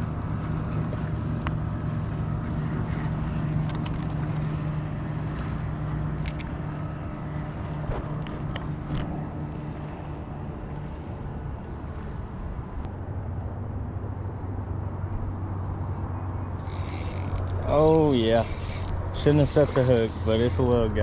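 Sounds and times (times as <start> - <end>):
boat motor hum: 0.0 - 21.0.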